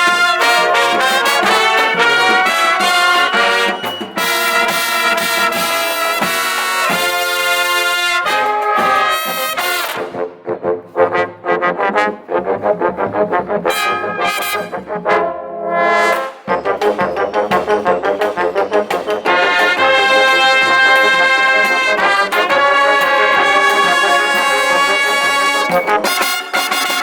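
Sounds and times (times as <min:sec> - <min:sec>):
brass section playing chords: 0:00.0 - 0:27.0.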